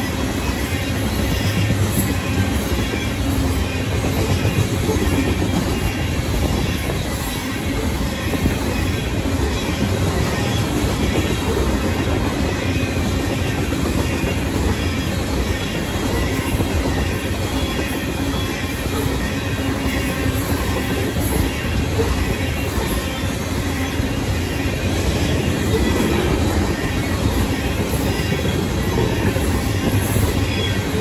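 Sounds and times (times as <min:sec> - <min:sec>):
crossing warning bells ringing: 0:00.0 - 0:31.0
train wheels rumbling on rails: 0:00.0 - 0:31.0.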